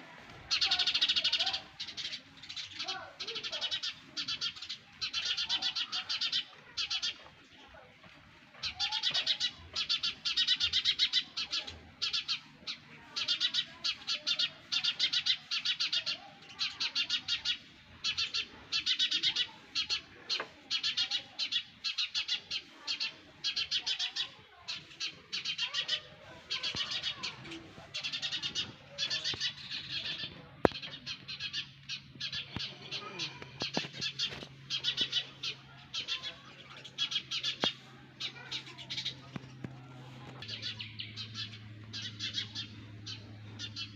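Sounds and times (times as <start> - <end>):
nestlings chirping: 0.3 - 7.7, 8.6 - 43.9.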